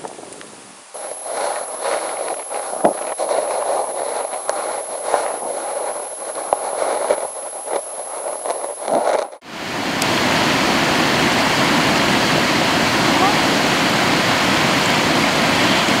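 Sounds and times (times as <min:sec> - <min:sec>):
dense crackling noise: 0:00.0 - 0:16.0
very high-pitched whine: 0:00.0 - 0:16.0.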